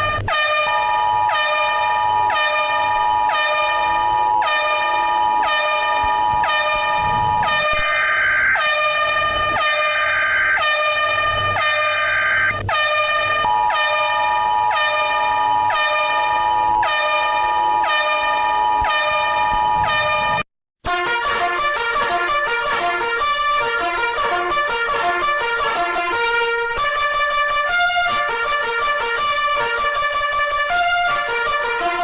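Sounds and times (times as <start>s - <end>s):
pulsing horn-like alarm tone: 0.0s - 32.0s.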